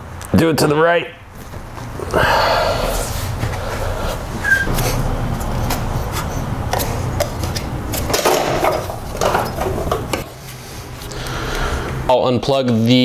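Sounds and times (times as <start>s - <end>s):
steady low hum: 1.0s - 12.4s.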